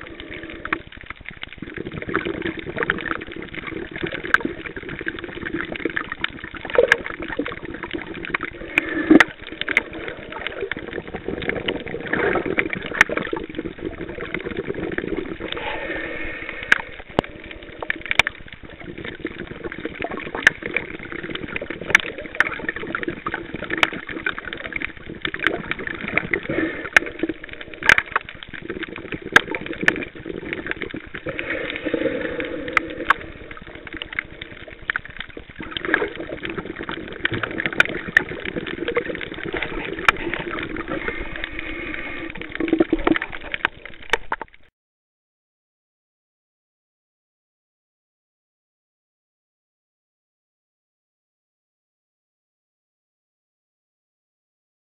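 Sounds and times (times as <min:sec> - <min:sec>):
underwater water movement: 0:00.0 - 0:44.7
sharp underwater clicks: 0:00.2 - 0:44.7.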